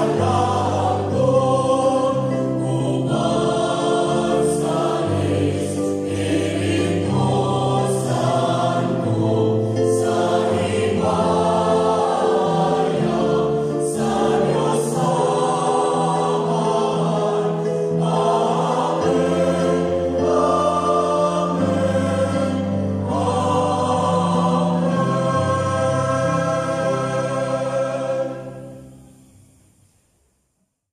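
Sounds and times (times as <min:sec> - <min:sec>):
choir singing a hymn: 0:00.0 - 0:29.3
electronic keyboard: 0:00.0 - 0:29.5.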